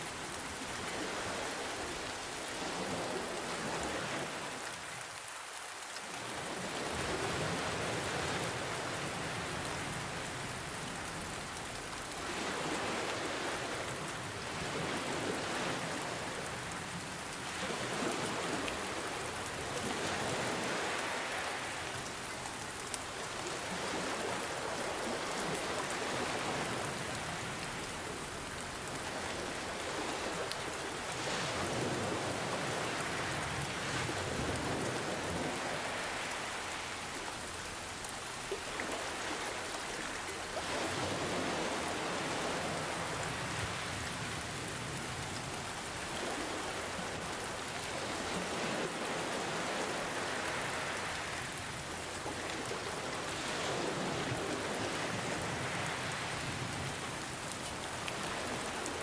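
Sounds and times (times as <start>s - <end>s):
steady rain: 0.0s - 59.0s
ocean waves washing in: 6.1s - 59.0s.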